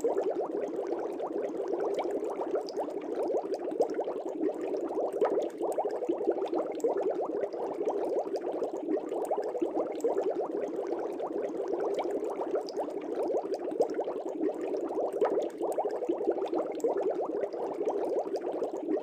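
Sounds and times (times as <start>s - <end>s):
aquarium water bubbling: 0.0s - 19.0s.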